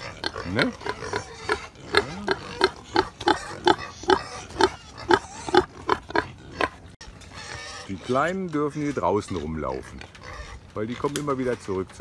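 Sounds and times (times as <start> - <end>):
pig grunting: 0.0 - 12.0.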